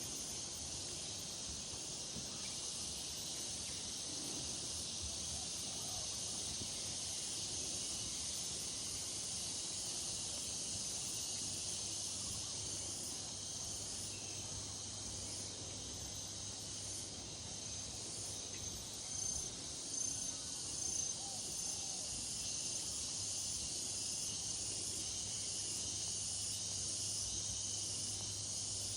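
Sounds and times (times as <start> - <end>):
insects buzzing: 0.0 - 28.9.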